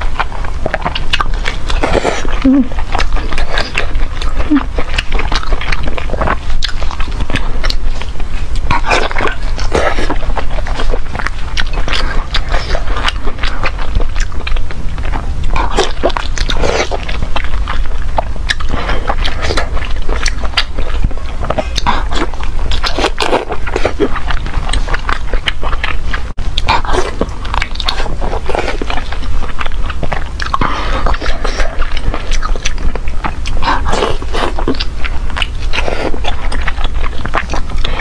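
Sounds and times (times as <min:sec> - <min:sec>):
person biting and chewing: 0:00.0 - 0:38.0.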